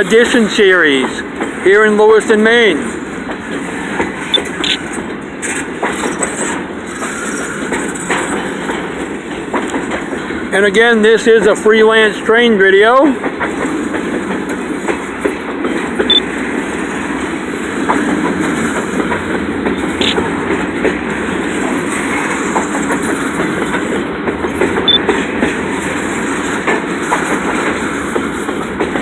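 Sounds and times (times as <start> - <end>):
freight train rumbling past: 0.0 - 29.0
wheels clacking over rail joints: 0.0 - 29.0.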